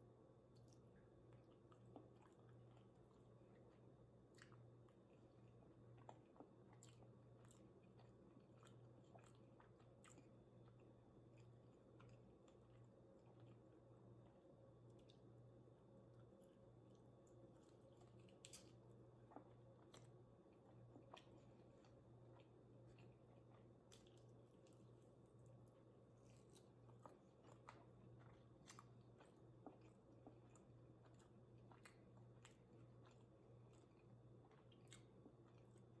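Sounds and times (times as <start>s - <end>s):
chewing food: 0.4s - 36.0s.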